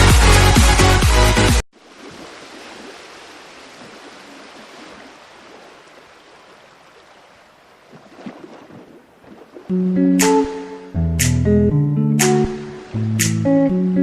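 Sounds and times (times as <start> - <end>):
rushing water: 0.8 - 10.6, 12.2 - 14.0.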